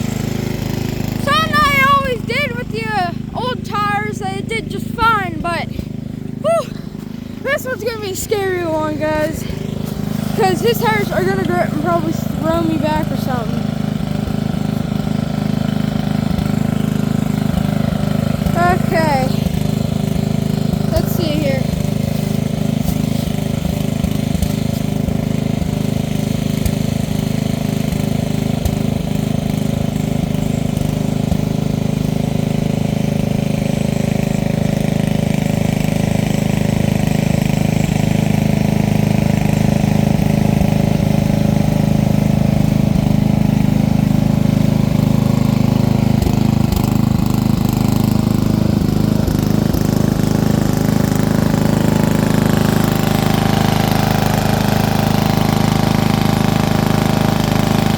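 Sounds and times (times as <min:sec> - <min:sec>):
small vehicle engine running: 0:00.0 - 0:57.9.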